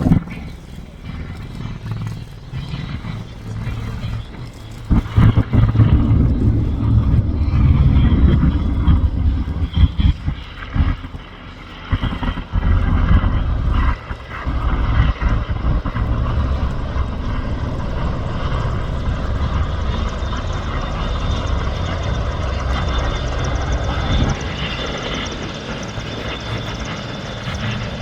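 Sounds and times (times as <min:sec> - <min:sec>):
helicopter rotor and turbine noise: 0:00.0 - 0:28.0
uneven low rumble: 0:00.0 - 0:28.0.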